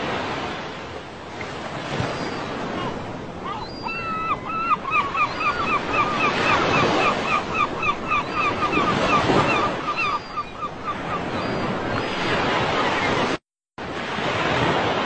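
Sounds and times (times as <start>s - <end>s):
ocean surf washing onto beach: 0.0s - 10.0s, 10.7s - 15.0s.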